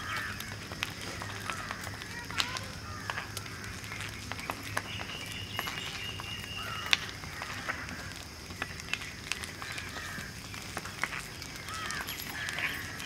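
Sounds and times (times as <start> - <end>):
birds calling: 0.0 - 13.0
bonfire crackling and popping: 0.0 - 13.0.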